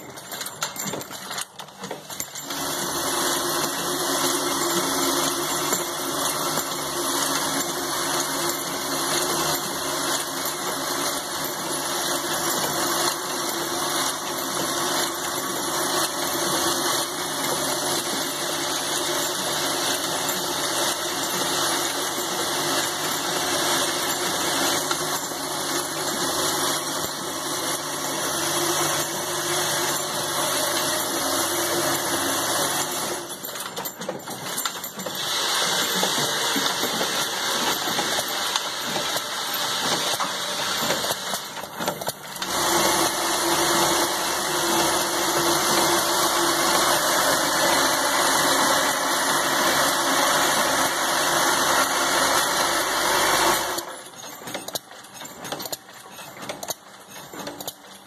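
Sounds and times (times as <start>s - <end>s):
rivet machine running: 0.0s - 58.0s.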